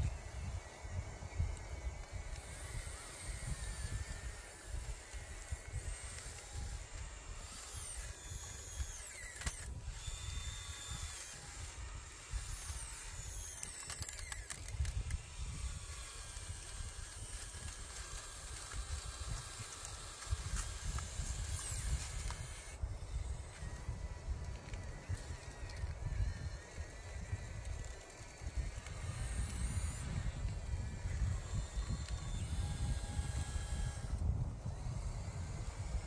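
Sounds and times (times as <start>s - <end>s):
small electric motors whining: 0.0s - 36.0s.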